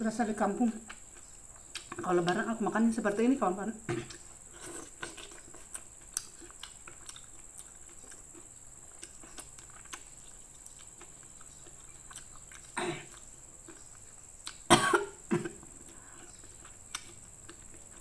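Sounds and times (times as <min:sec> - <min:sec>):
mouth chewing food: 0:00.6 - 0:02.6, 0:03.9 - 0:14.8, 0:15.4 - 0:18.0.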